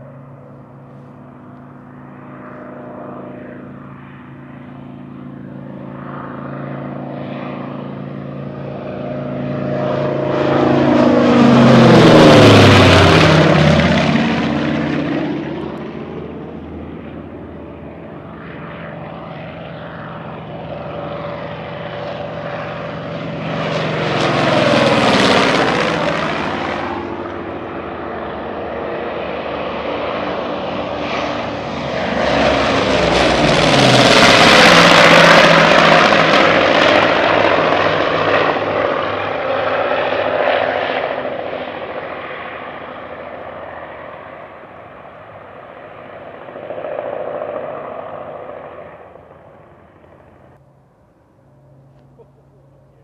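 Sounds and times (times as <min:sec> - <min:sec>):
propeller plane flyby: 0:00.0 - 0:53.0.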